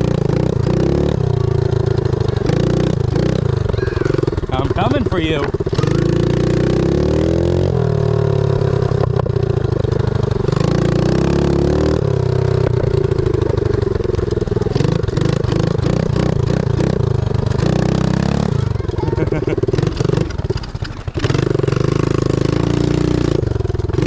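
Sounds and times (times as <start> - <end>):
pit bike engine revving: 0.0 - 24.0.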